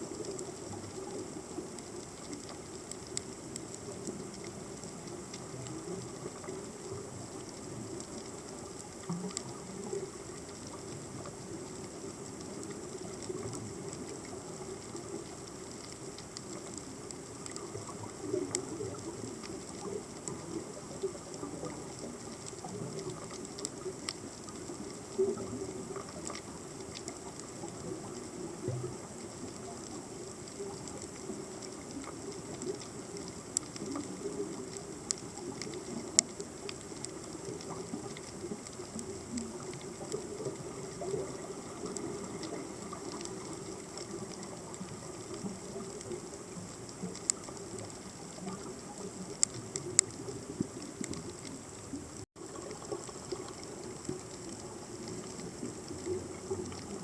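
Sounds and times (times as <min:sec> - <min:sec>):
sharp underwater clicks and crackles: 0:00.0 - 0:57.0.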